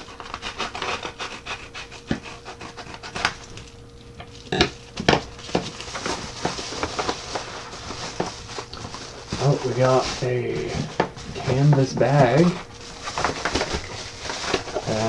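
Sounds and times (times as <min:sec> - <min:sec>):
package crinkling and rustling: 0:02.0 - 0:15.0.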